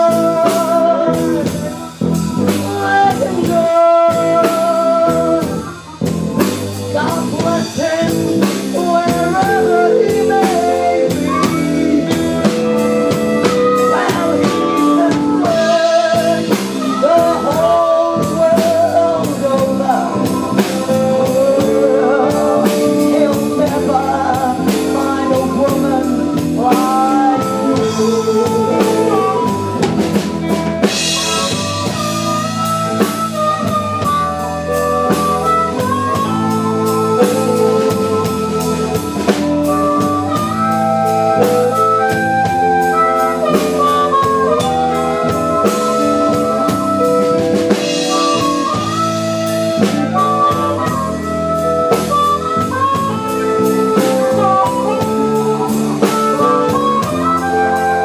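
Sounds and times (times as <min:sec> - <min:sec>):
drum kit beat: 0:00.0 - 0:58.0
lead melody line: 0:00.0 - 0:58.0
live blues band playing: 0:00.0 - 0:58.0.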